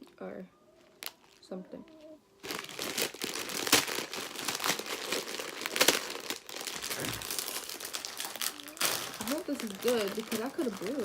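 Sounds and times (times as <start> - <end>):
plastic packet crinkling: 0.8 - 11.0.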